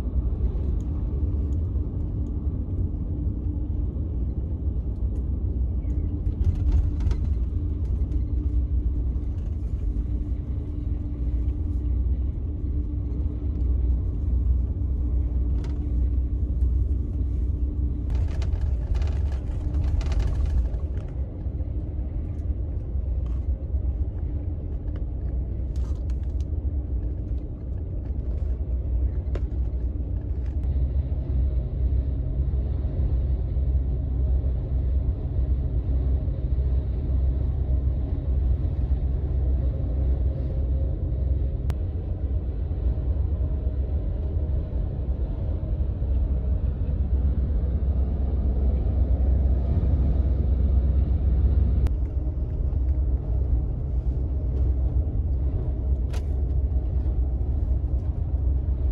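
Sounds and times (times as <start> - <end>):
bus engine and road noise: 0.0 - 58.9
steady low hum: 0.0 - 58.9.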